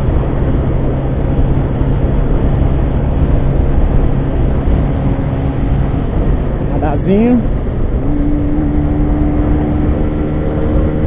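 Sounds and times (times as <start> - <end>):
motorcycle engine at high speed: 0.0 - 11.0.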